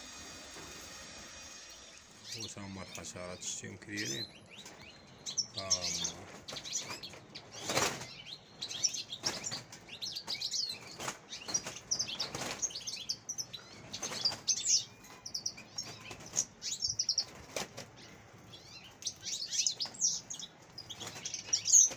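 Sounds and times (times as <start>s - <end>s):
birds chirping and twittering: 0.0s - 21.9s.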